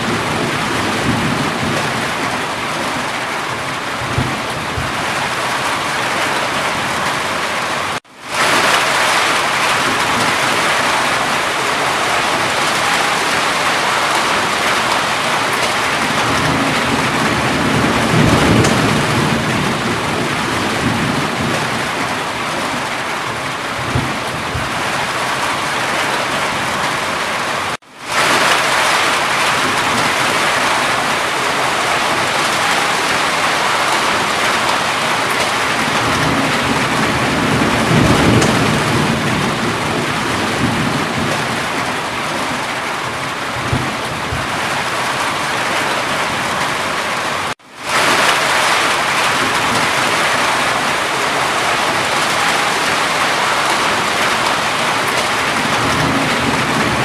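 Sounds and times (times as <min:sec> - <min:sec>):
heavy rain falling: 0:00.0 - 0:57.0
thunder rumbling: 0:00.0 - 0:57.0.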